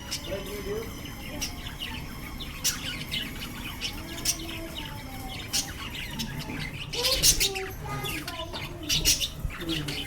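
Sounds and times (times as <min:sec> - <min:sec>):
lovebirds chirping: 0:00.0 - 0:10.0.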